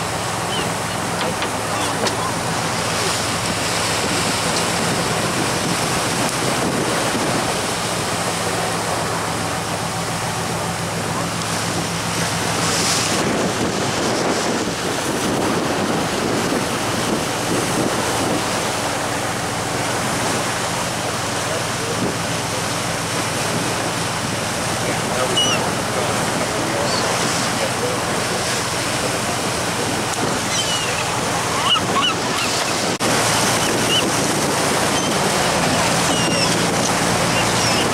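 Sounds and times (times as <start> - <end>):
boat engine hum: 0.0 - 37.9
water rushing past boat: 0.0 - 37.9
wind buffeting microphone: 0.2 - 9.5, 10.2 - 37.9.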